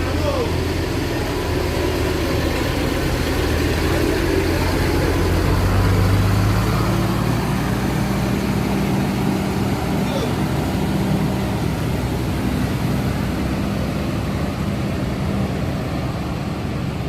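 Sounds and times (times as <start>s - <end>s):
diesel bus engine idling: 0.0s - 17.0s.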